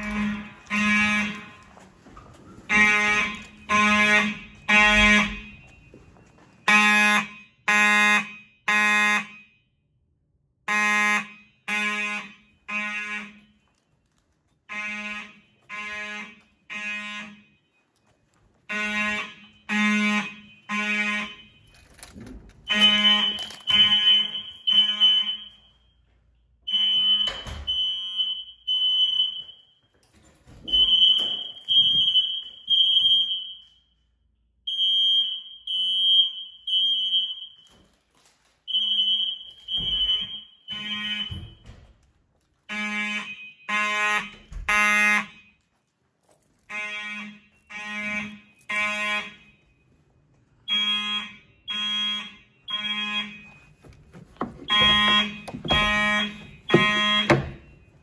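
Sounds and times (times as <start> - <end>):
fire alarm horn blasts: 0.0 - 14.0, 14.6 - 30.0, 30.6 - 37.9, 38.7 - 41.8, 42.7 - 45.8, 46.6 - 58.0.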